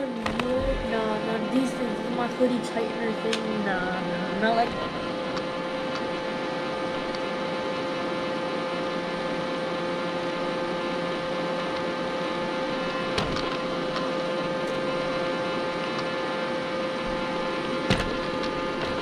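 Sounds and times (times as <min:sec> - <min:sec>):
robot vacuum cleaner humming: 0:00.0 - 0:19.0.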